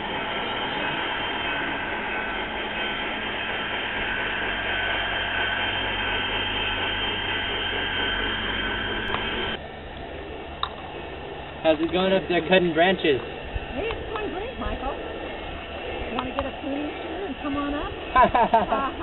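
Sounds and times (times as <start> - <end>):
model train mechanical drone: 0.0 - 19.0.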